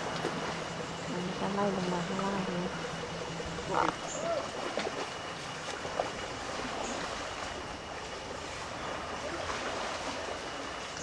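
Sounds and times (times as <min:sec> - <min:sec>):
sea water rushing: 0:00.0 - 0:11.0
wind: 0:00.0 - 0:11.0.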